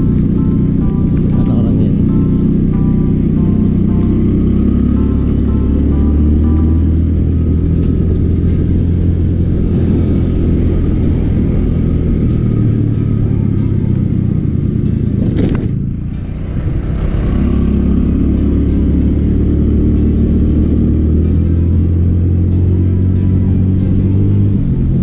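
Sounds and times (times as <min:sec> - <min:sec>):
scooter engine running: 0:00.0 - 0:25.0
wind and road noise: 0:00.0 - 0:25.0.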